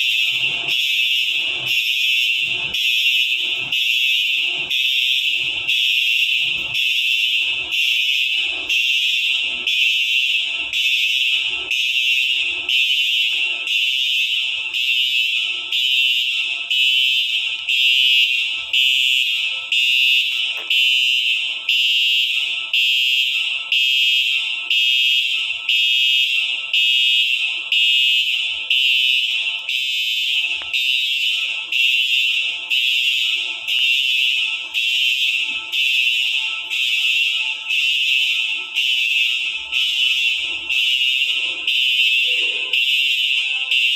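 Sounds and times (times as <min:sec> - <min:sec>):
shrill pulsing fire alarm: 0:00.0 - 0:43.9.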